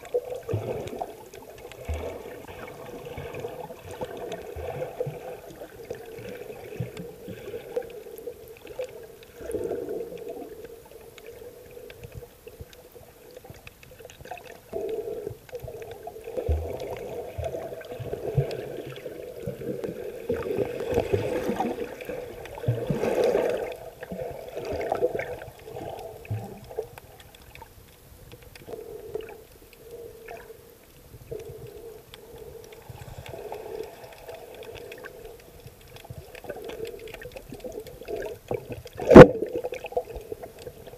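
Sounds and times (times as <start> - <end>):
underwater water surging: 0.0 - 40.9.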